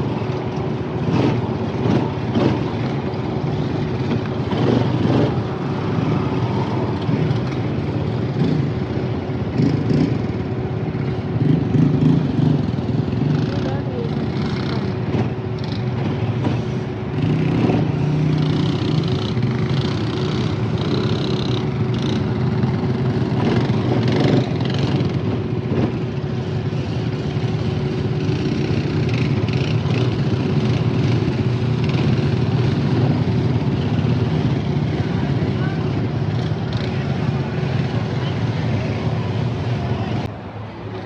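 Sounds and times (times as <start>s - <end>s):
atv engine droning: 0.0s - 41.0s.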